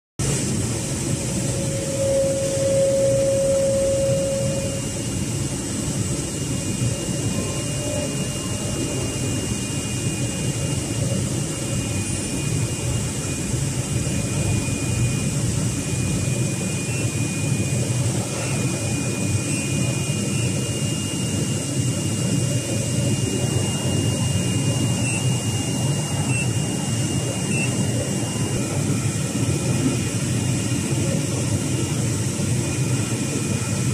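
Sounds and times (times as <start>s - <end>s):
cutting machine rushing drone: 0.2s - 33.9s
faint high-pitched whines: 0.3s - 33.9s.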